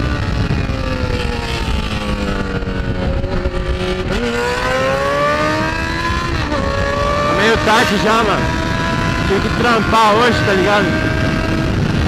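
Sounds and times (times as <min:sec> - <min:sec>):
low wind rumble: 0:00.0 - 0:12.0
motorcycle engine running: 0:00.0 - 0:12.0.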